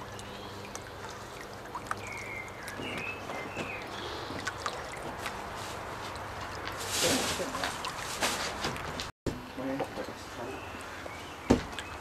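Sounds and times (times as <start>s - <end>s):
water trickling and sloshing: 0.0s - 12.0s.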